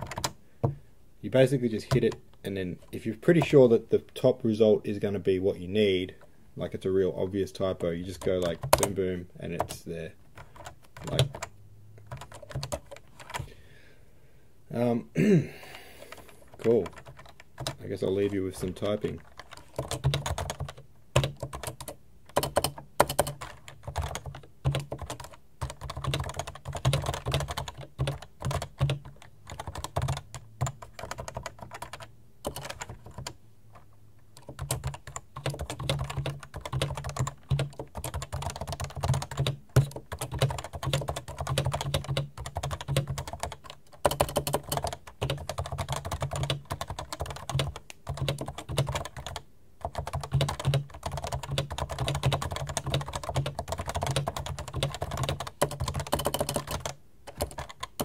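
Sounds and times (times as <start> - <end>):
keyboard typing: 0.0 - 0.8, 8.2 - 13.5, 16.0 - 58.0.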